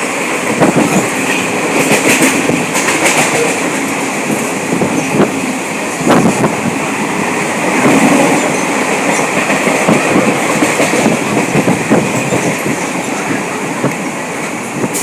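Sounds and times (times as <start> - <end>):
train rumble and hiss: 0.0 - 15.0
train wheels clicking over rail joints: 0.0 - 15.0.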